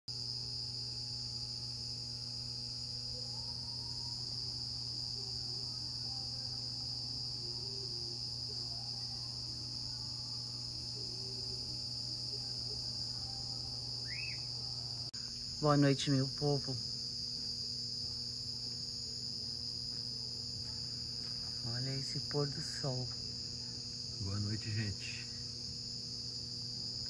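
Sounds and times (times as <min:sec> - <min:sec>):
crickets chirring: 0:00.1 - 0:27.0.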